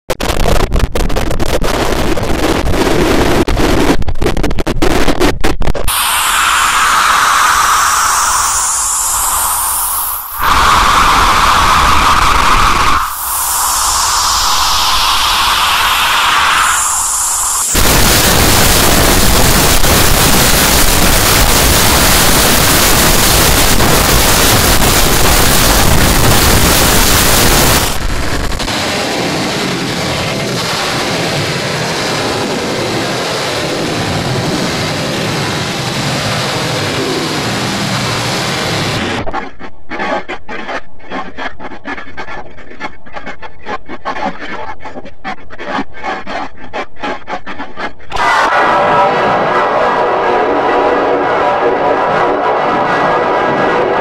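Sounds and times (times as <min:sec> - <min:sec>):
harsh distorted noise: 0:00.1 - 0:44.5, 0:46.7 - 0:54.0.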